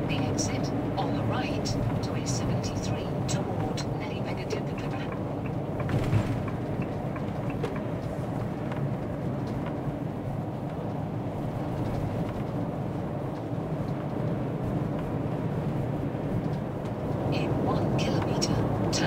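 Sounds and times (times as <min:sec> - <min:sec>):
road and engine noise in cab: 0:00.0 - 0:19.0.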